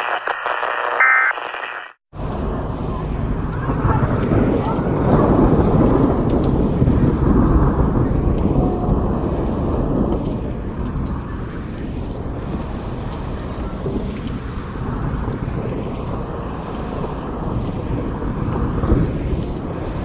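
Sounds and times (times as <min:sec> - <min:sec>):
steady storm rumble: 0:02.1 - 0:20.0
thunder rumbling: 0:02.1 - 0:20.0.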